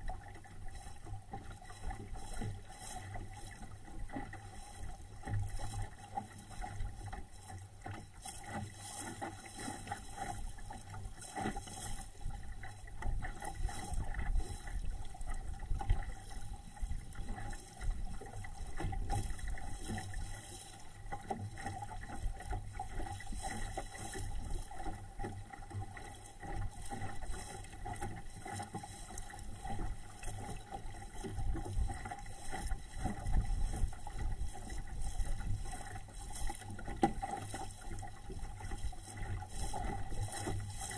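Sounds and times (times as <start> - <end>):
water splashing along hull: 0.0 - 40.9.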